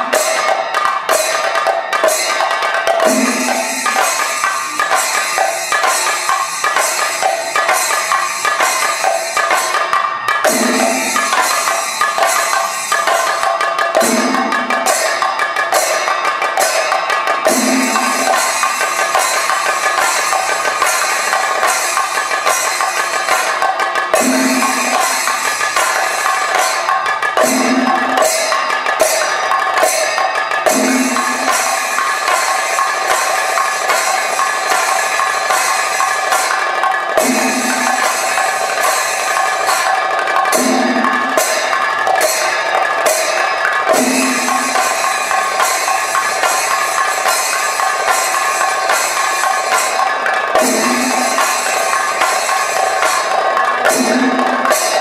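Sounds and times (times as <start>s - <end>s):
drums beaten rapidly with sticks: 0.0s - 55.0s
hand cymbals: 0.0s - 55.0s.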